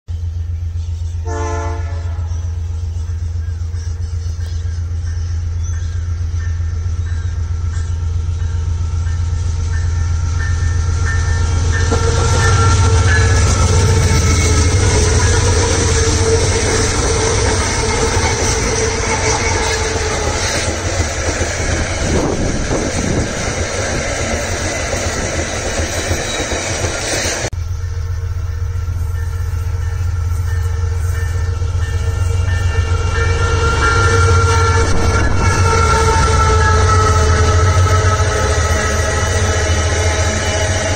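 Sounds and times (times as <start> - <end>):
diesel freight train passing: 0.1 - 40.9
locomotive engine rumbling: 0.1 - 40.9.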